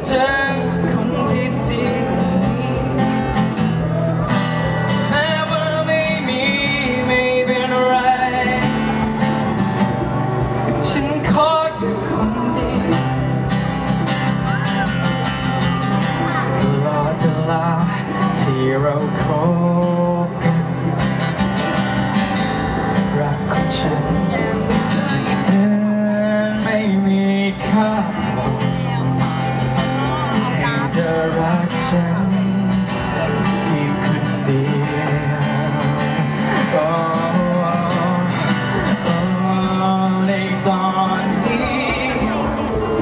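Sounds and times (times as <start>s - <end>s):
acoustic guitar chords: 0.0s - 43.0s
man singing: 0.0s - 43.0s.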